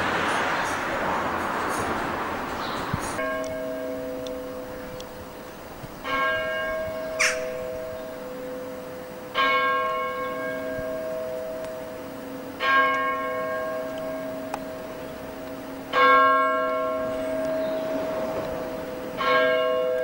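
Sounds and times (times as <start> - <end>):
large bell tolling: 0.0 - 12.0, 12.6 - 20.0.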